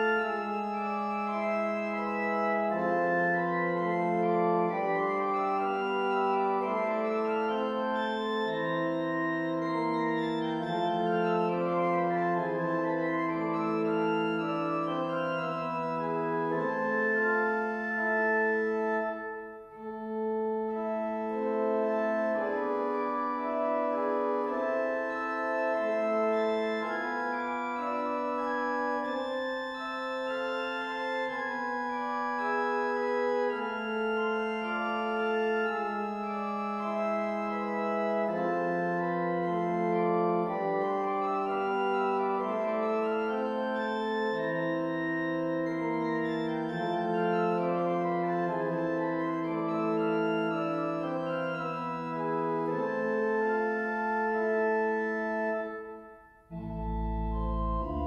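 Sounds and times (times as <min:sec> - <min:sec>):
organ playing: 0:00.0 - 0:58.0.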